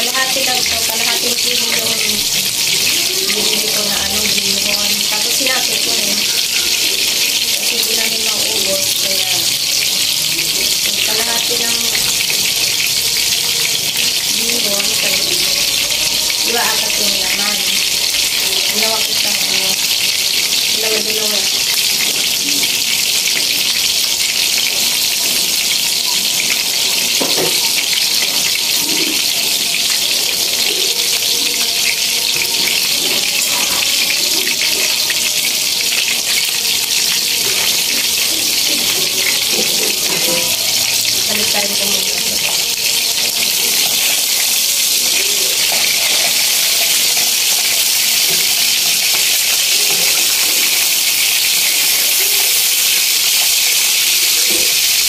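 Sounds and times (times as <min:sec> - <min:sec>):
sauce sizzling in a wok: 0:00.0 - 0:55.0.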